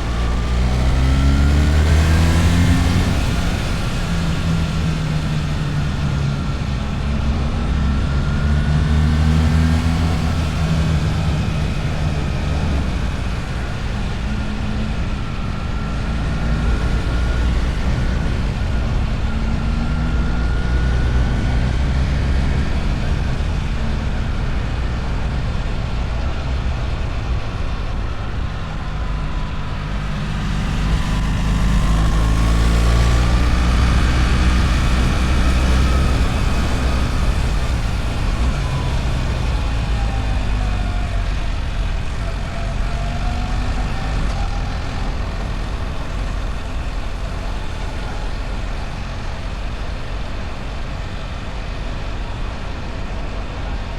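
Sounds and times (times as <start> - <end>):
motorcycle engine revving: 0.0 - 51.8.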